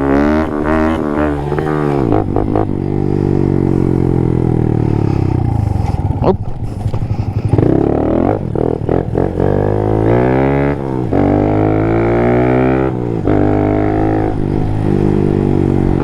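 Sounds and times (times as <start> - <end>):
small motorcycle engine shifting gears: 0.0 - 16.0.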